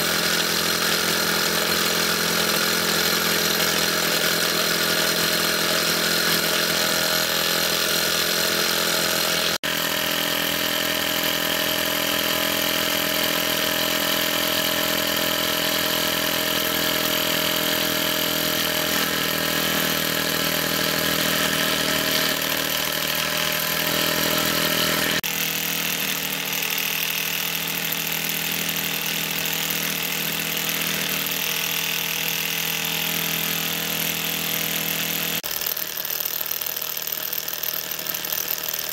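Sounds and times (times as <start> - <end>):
toy steam engine whirring: 0.0 - 38.9.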